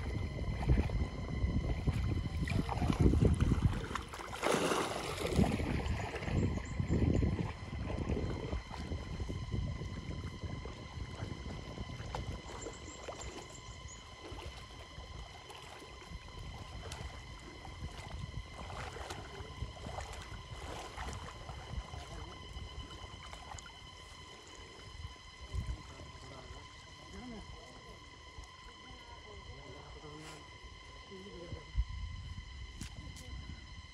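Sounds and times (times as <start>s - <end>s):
water sloshing around wading legs: 0.0s - 31.2s
faint high whine: 0.0s - 33.9s
steady low rumble: 0.0s - 33.9s.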